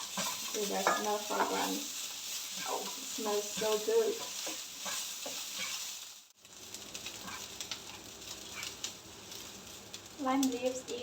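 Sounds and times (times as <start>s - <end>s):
aromatics sizzling in hot oil: 0.0s - 11.0s.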